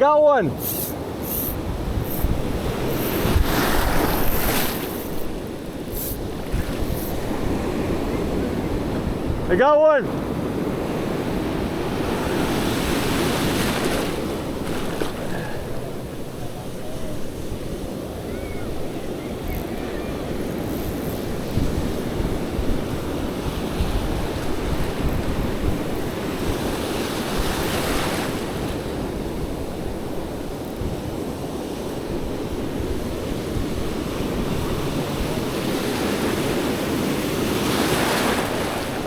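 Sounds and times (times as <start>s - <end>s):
ocean surf breaking: 0.0s - 30.4s, 31.2s - 39.0s
wind buffeting microphone: 0.5s - 9.5s, 10.1s - 39.0s.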